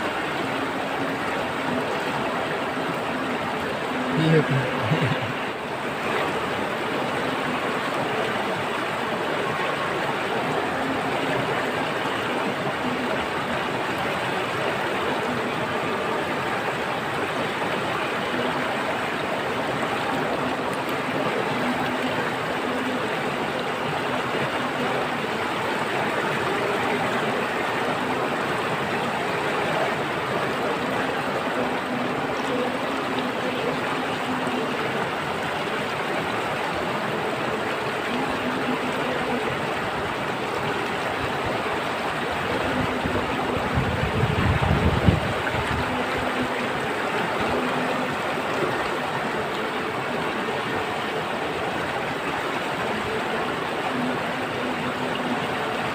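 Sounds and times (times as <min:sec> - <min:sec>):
running water: 0:00.0 - 0:55.9.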